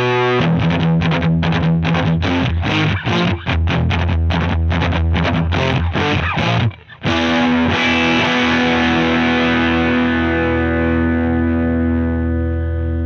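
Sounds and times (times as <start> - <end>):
distorted electric guitar chord: 0.0 - 13.0.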